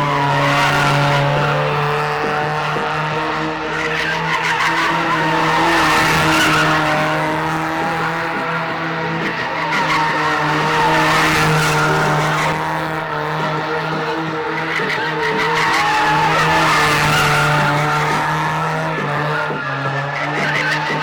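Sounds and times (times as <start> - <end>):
car engine revving high: 0.0 - 21.0.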